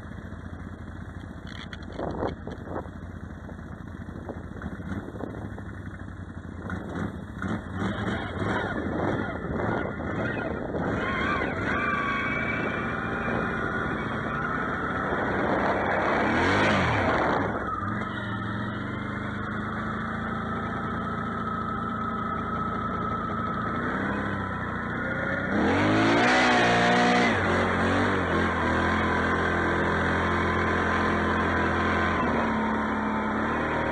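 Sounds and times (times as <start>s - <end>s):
atv engine revving: 0.0s - 33.9s.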